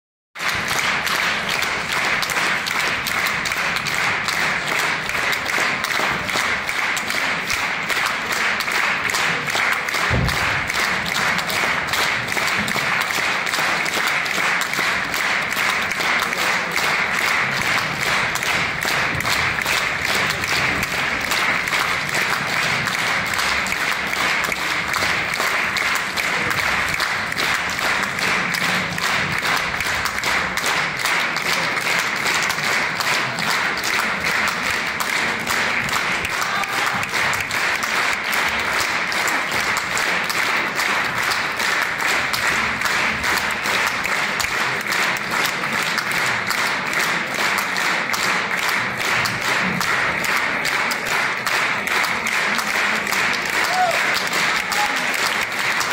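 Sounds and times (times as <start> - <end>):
audience applauding: 0.4 - 55.9.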